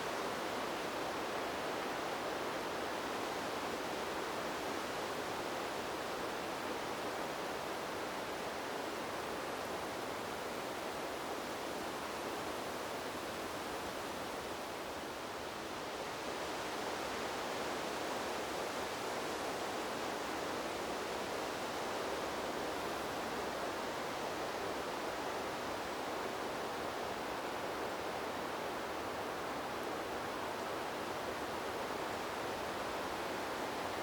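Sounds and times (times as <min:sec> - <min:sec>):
wind blowing through trees: 0:00.0 - 0:34.0.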